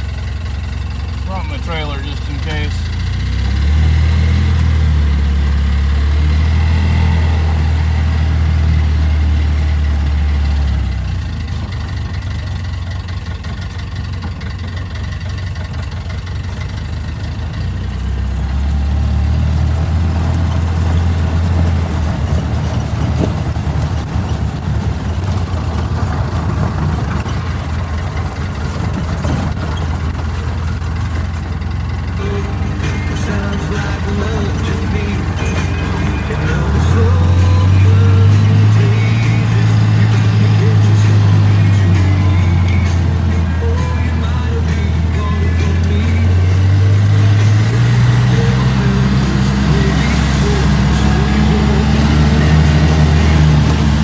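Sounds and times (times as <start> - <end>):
rushing background noise: 0.0 - 54.0
vehicle engine droning: 0.0 - 54.0.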